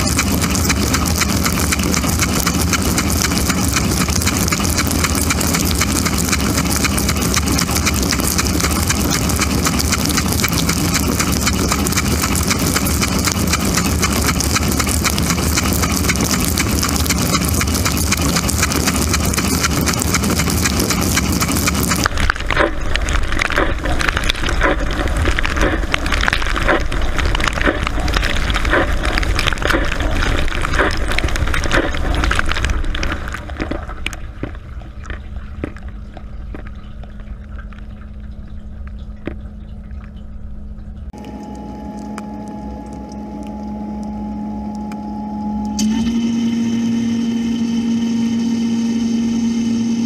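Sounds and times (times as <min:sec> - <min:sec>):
pump hum: 0:00.0 - 0:50.0.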